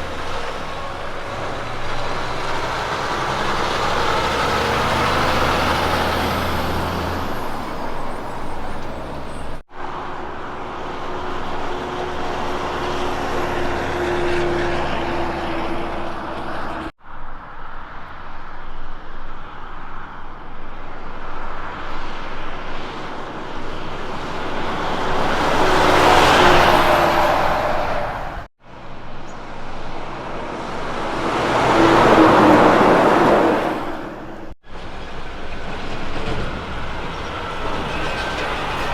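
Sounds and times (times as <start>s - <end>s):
diesel engine drone: 0.0s - 38.9s
trucks driving past: 0.0s - 38.9s.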